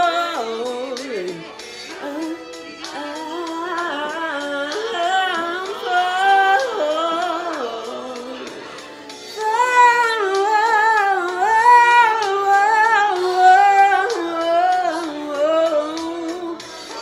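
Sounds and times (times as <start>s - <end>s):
woman singing without words: 0.0s - 8.6s, 9.2s - 17.0s.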